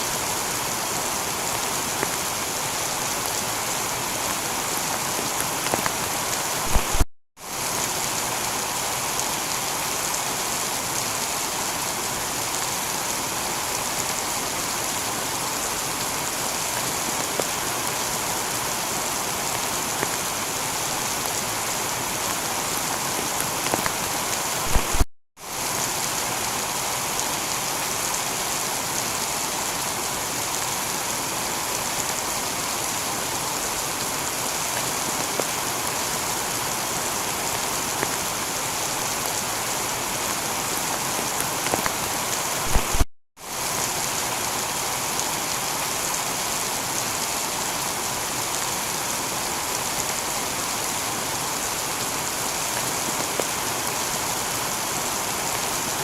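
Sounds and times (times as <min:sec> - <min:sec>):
heavy rain on a tiled roof: 0:00.0 - 0:56.0.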